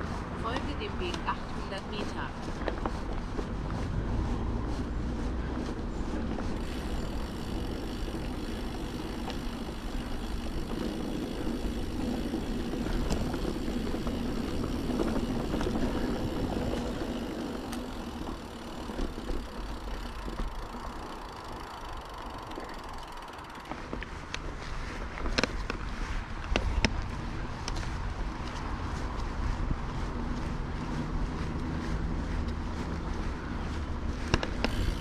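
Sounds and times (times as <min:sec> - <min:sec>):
bike clicks and rattles: 0:00.0 - 0:35.0
mountain bike tyres rumbling: 0:00.0 - 0:35.0.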